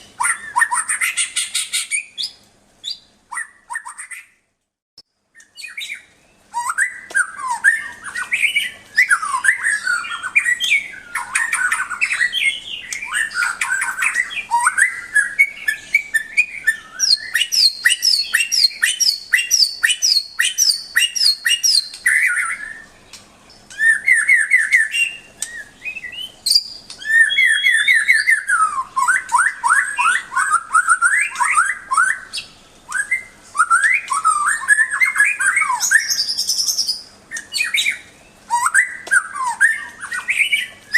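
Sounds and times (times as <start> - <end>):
songbird singing whistled phrases: 0.0 - 4.4, 5.4 - 40.9.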